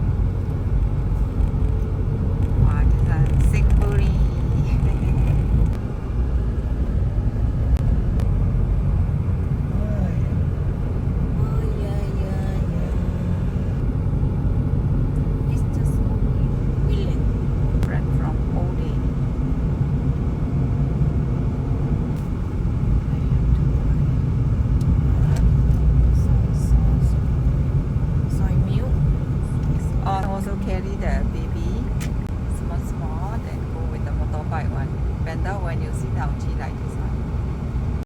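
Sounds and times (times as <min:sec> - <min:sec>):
road vehicle rumble: 0:00.0 - 0:38.0.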